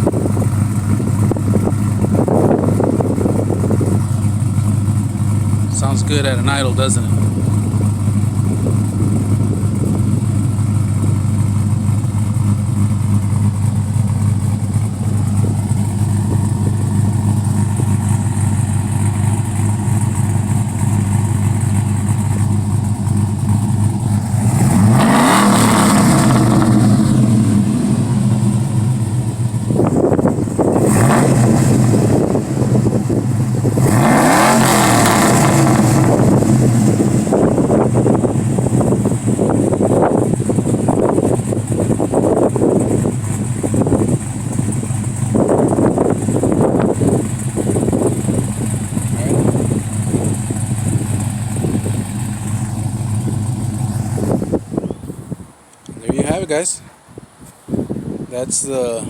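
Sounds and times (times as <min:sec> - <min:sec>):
car engine idling and revving: 0:00.0 - 0:56.8.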